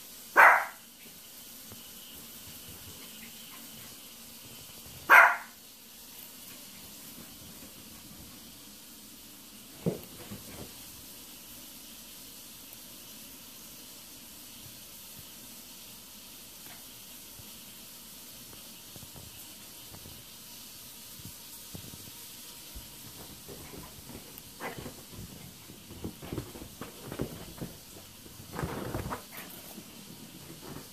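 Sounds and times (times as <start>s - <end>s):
room hiss: 0.0s - 30.9s.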